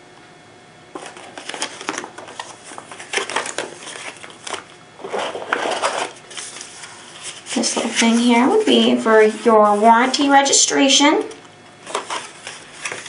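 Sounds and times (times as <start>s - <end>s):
paper rustling and crinkling: 0.9s - 10.4s, 11.8s - 13.0s.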